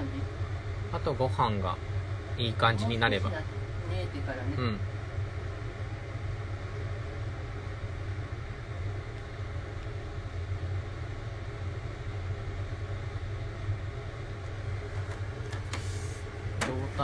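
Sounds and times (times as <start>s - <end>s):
gas stove burner rumbling: 0.0s - 17.0s.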